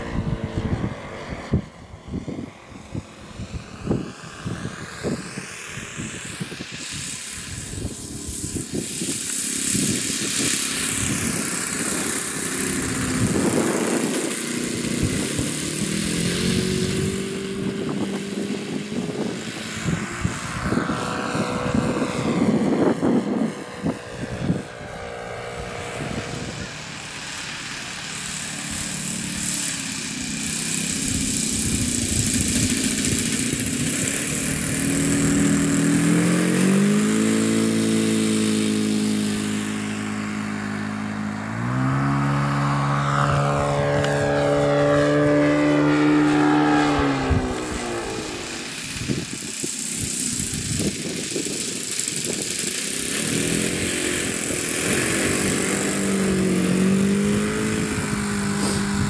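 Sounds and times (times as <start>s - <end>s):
model aircraft engine: 0.0s - 59.0s.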